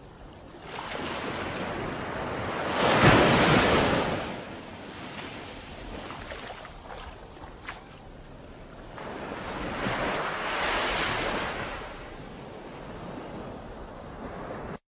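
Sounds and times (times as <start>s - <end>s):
ocean waves breaking: 0.0s - 14.8s.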